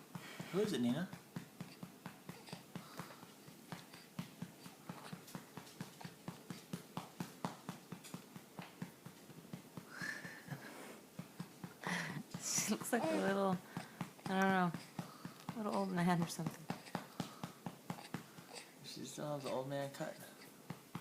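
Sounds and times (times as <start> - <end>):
patting on baby's back: 0.1 - 21.0.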